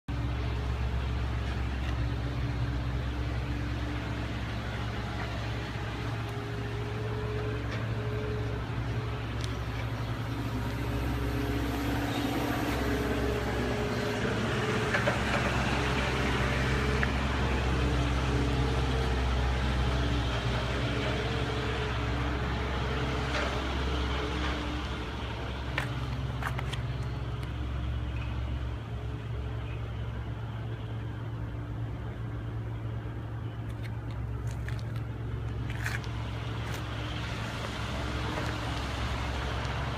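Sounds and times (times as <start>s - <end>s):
motor vehicle running: 0.0s - 39.9s.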